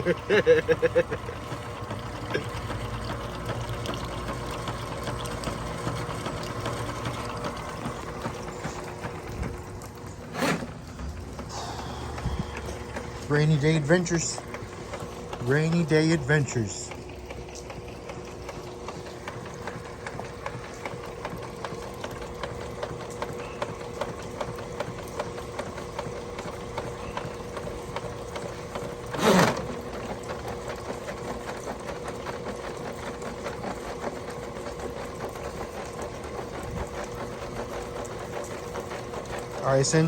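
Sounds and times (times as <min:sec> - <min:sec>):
drain-cleaning machine rattling: 0:00.0 - 0:40.0.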